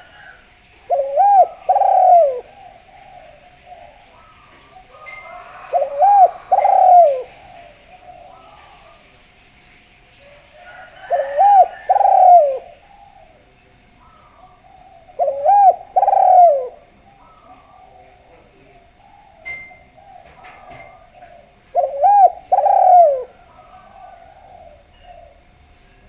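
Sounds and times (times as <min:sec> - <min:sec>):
faint cooing of another dove: 0:00.0 - 0:09.2, 0:10.2 - 0:26.0
dove cooing: 0:00.0 - 0:09.4, 0:10.2 - 0:26.0.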